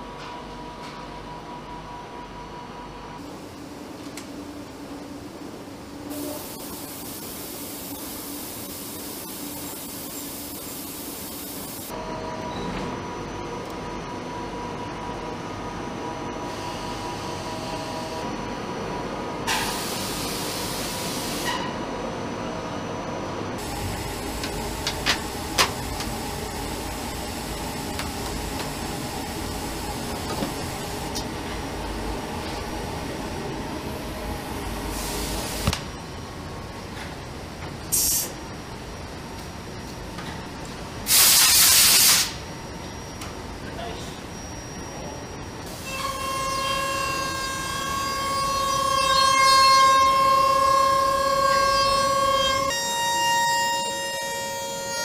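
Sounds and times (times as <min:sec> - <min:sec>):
factory machinery noise with hiss: 0:00.0 - 0:55.0.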